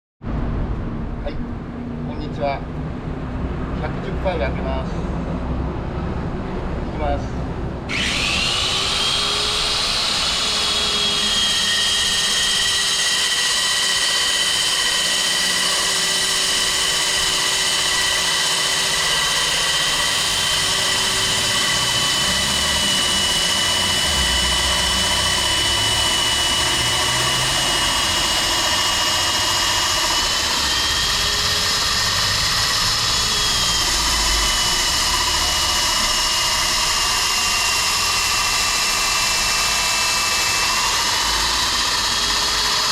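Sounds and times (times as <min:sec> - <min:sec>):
core drill boring through concrete: 0:07.9 - 0:42.9.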